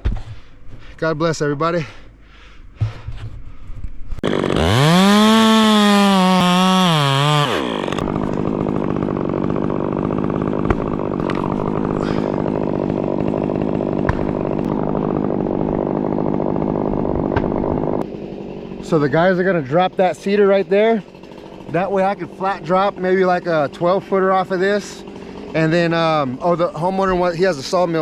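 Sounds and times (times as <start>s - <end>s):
chainsaw revving: 4.2s - 28.0s.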